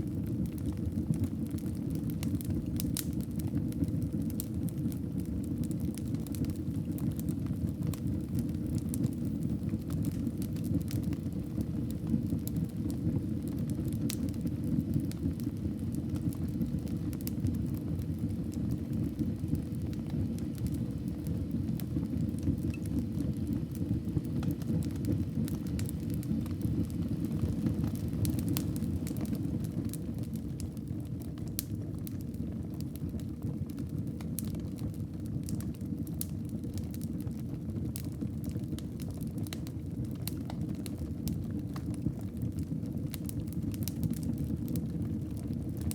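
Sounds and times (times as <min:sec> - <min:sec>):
flames rumbling: 0:00.0 - 0:45.9
wood crackling and popping: 0:00.0 - 0:45.9.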